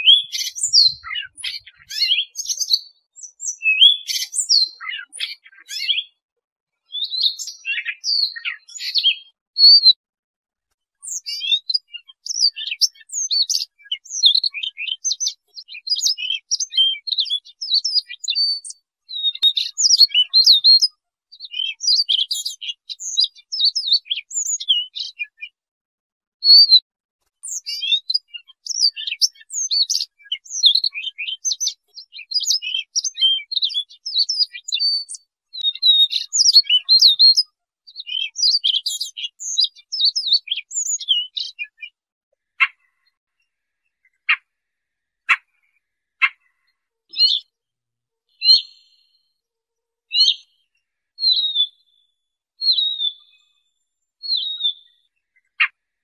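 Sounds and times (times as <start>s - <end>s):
bird singing warbling phrases: 0.0s - 6.2s, 6.8s - 10.0s, 11.0s - 25.6s, 26.4s - 26.8s, 27.4s - 44.6s, 45.2s - 47.6s, 48.3s - 49.4s, 50.1s - 55.9s.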